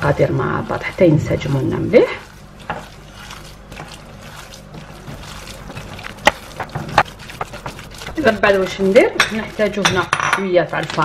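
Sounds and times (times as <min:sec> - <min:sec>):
hand squishing wet mixture: 0:00.0 - 0:11.0.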